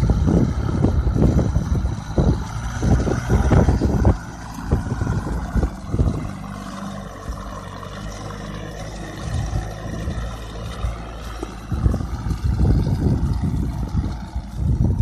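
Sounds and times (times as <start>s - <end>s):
low buffeting: 0.0s - 15.0s
tractor engine running: 0.0s - 15.0s.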